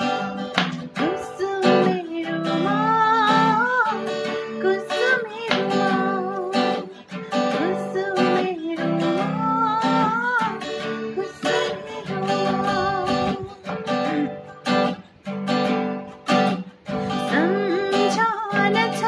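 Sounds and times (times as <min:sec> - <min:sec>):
guitar melody with bent notes: 0:00.0 - 0:19.0.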